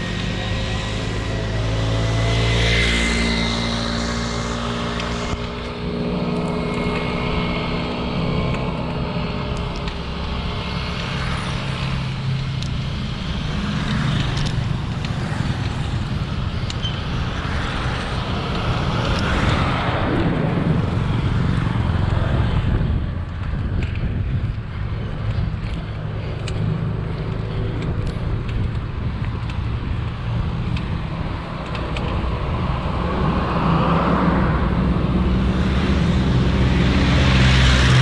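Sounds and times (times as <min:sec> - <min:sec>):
motor traffic: 0:00.0 - 0:38.0
wind noise on microphone: 0:00.0 - 0:38.0.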